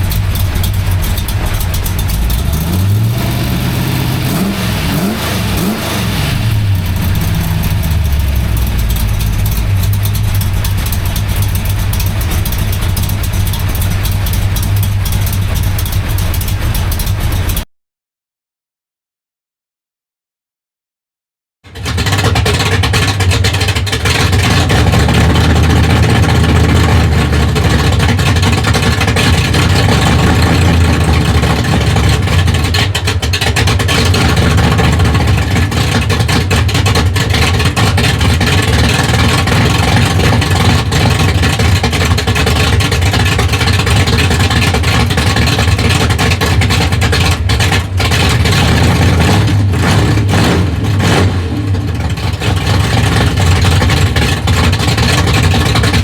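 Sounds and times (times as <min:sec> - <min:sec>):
engine idling loudly: 0:00.0 - 0:17.6, 0:21.6 - 0:56.0.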